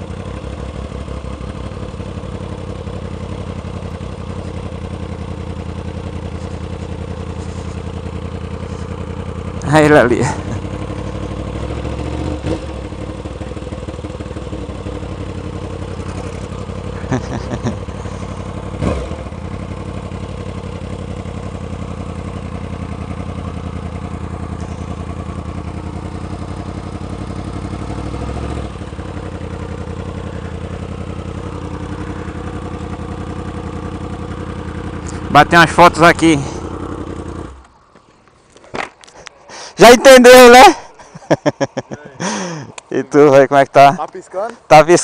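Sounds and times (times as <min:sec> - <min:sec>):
motorcycle engine running at low revs: 0:00.0 - 0:39.3, 0:40.4 - 0:44.0.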